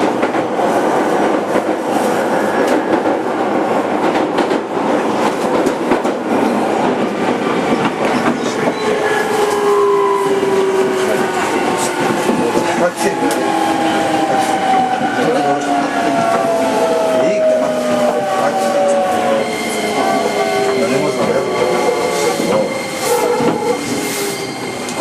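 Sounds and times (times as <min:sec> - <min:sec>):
train running rumble: 0:00.0 - 0:25.0.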